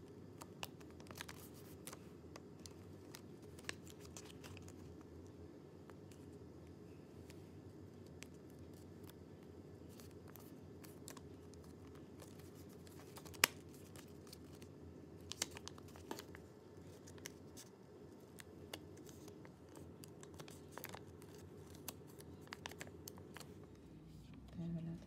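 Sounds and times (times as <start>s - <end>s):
low room hum: 0.0s - 25.0s
paper being folded and creased: 0.4s - 5.0s, 7.9s - 23.7s.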